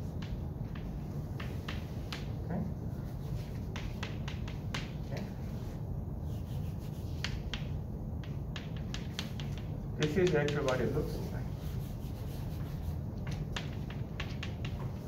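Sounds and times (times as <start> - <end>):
chalk tapping and scratching: 0.0 - 15.0
low room hum: 0.0 - 15.0.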